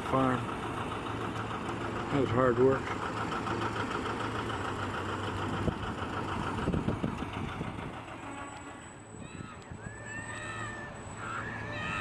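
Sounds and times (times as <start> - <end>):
tractor engine passing: 0.0 - 12.0.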